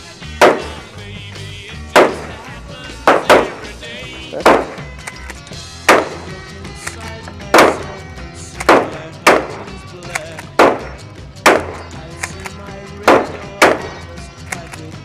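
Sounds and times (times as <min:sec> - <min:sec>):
rock music: 0:00.0 - 0:15.0
gunshots: 0:00.3 - 0:00.9, 0:01.9 - 0:03.8, 0:04.4 - 0:14.9.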